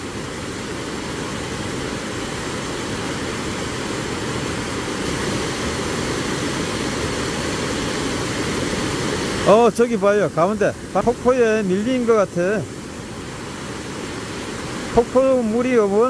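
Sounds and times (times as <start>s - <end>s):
waterfall rushing over rock: 0.0s - 16.0s.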